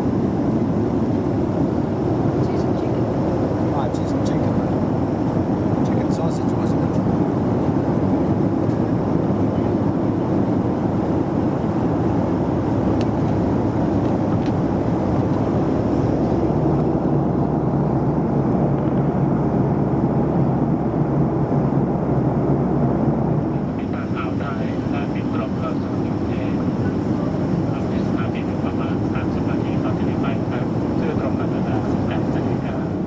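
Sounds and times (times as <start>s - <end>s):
airliner cabin engine rush: 0.0s - 33.0s.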